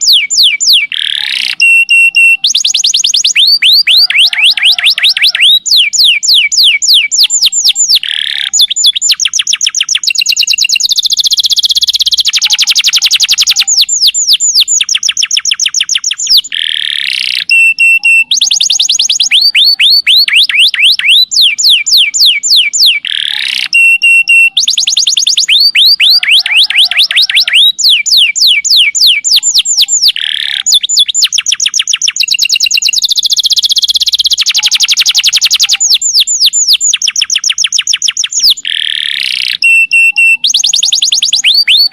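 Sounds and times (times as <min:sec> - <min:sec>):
canary singing fast trills: 0:00.0 - 0:41.9.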